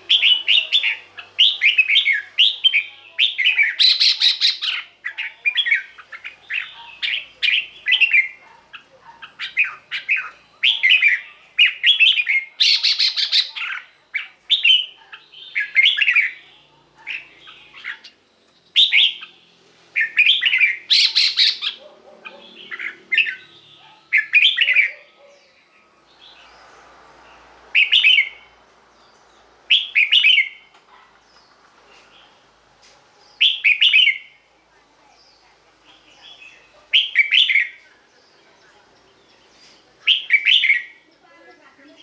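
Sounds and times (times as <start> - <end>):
bulbul singing: 0.0 - 26.7, 27.3 - 31.1, 33.2 - 34.5, 35.1 - 42.0.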